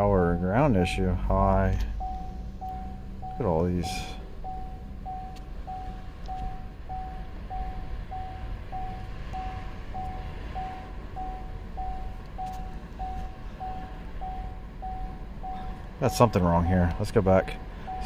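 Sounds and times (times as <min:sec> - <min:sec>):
low steady hum: 0:00.0 - 0:18.0
vehicle warning chime beeping: 0:00.0 - 0:18.0.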